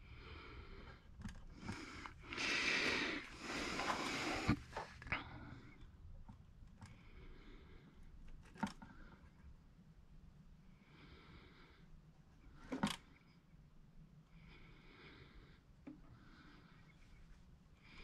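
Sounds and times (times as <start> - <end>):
person breathing softly: 0.0 - 6.0, 6.8 - 9.6, 10.6 - 13.3, 14.2 - 18.0.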